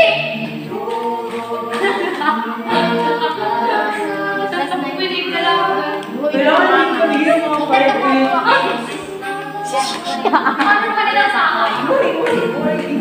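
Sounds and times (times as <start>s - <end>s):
group singing a capella: 0.0s - 13.0s.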